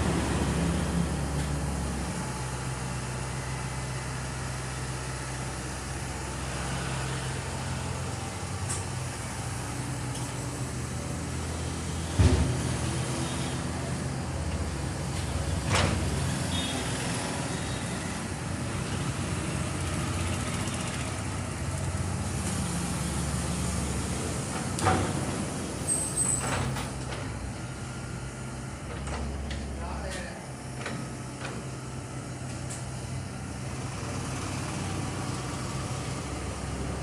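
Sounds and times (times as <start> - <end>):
heavy machinery engine droning: 0.0 - 37.0.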